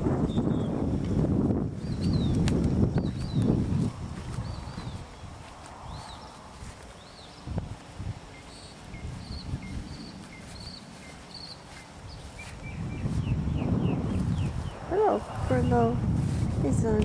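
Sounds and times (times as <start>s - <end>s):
wind rumble on microphone: 0.0s - 17.0s
songbird chirping: 1.8s - 16.0s.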